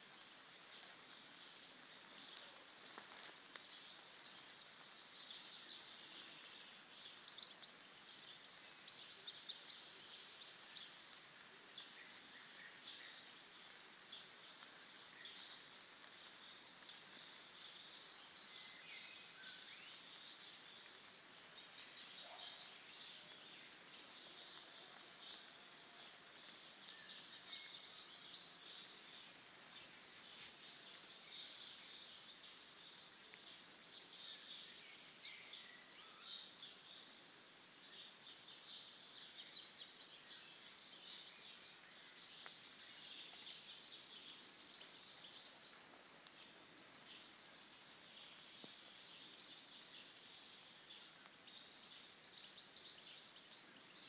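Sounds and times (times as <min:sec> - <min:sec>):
quiet hiss of woods: 0:00.0 - 0:54.0
small birds chirping and trilling: 0:00.0 - 0:54.0.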